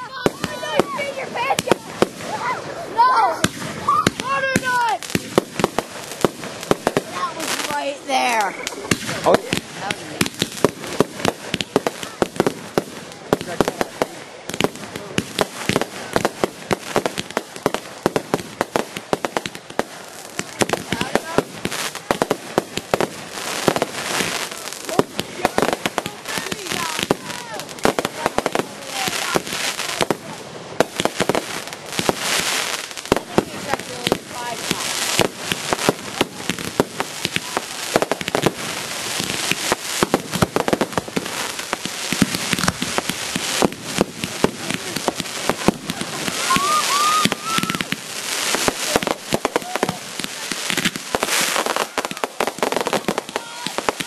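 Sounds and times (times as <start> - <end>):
fireworks cracking and popping: 0.0 - 54.0
steady hiss: 0.0 - 54.0.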